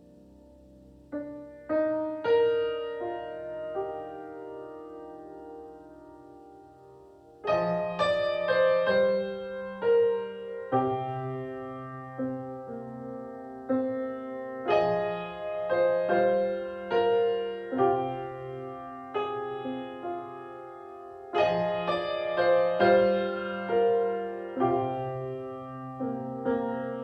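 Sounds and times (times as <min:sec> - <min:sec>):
piano playing slow chords: 0:00.0 - 0:27.0.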